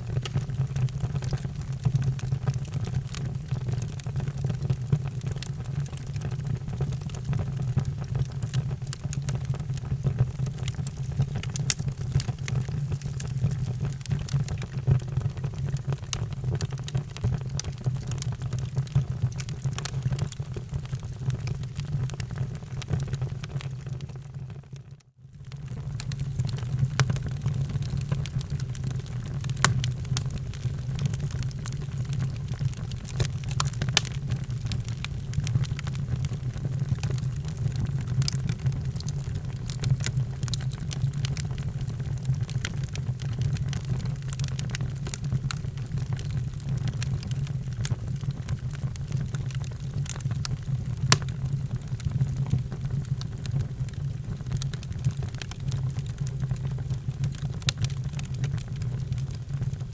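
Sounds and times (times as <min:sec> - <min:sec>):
wood fire crackling: 0:00.0 - 0:24.5, 0:25.4 - 0:59.9.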